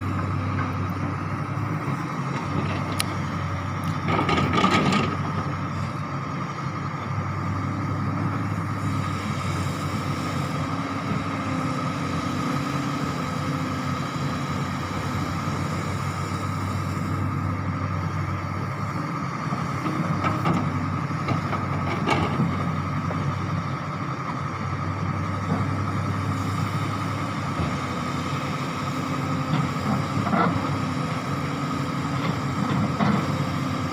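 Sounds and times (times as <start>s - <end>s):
excavator engine humming: 0.0s - 33.9s.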